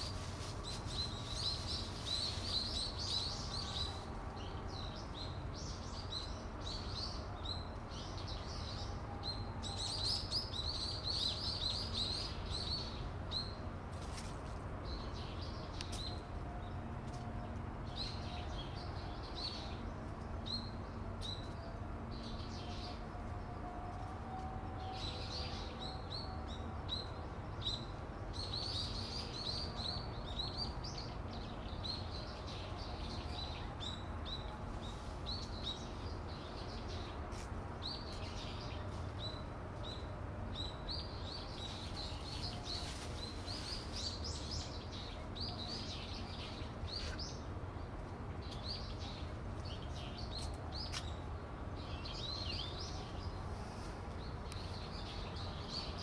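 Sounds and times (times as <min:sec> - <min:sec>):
small birds chirping: 0:00.0 - 0:16.7, 0:25.0 - 0:56.0.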